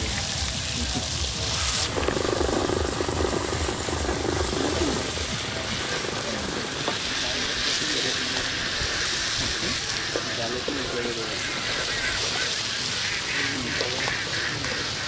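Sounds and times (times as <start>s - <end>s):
stems sizzling in oil: 0.0s - 15.0s.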